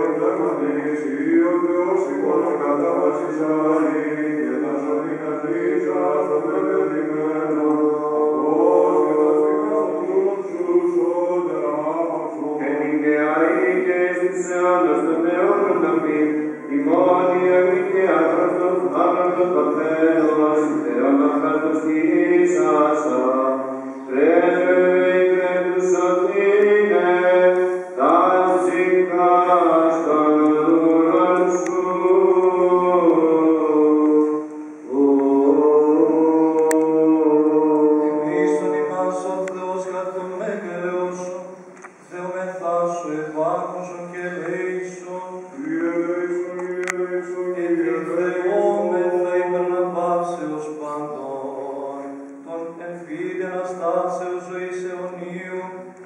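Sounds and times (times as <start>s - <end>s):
man chanting melismatic phrases: 0.0s - 56.0s.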